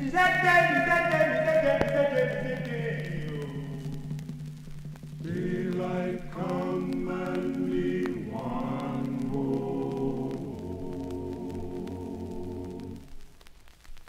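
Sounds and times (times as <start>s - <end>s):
chorus singing held chords: 0.0s - 13.3s.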